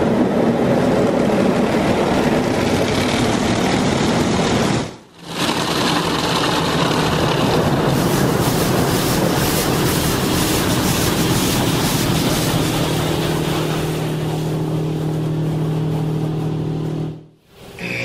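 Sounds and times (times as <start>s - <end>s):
car wash machinery and spray: 0.0s - 18.0s.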